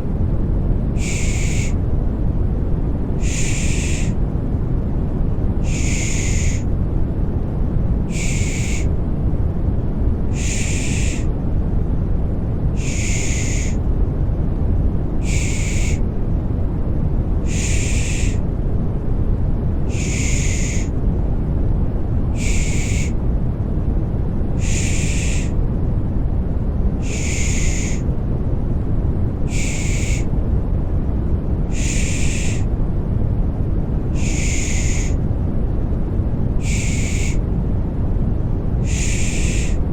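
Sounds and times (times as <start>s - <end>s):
deep white noise rumble: 0.0s - 39.9s.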